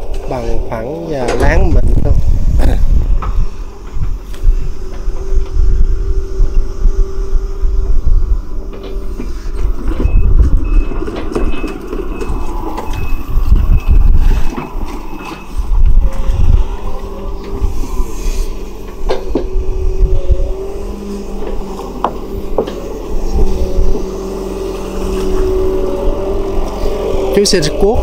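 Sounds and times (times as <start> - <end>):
excavator diesel engine under load: 0.0 - 28.0.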